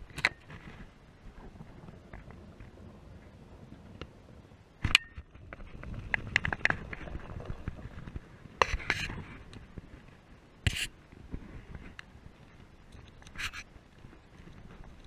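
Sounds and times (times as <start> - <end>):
handling rustle near camera: 0.0 - 3.4, 5.4 - 15.0.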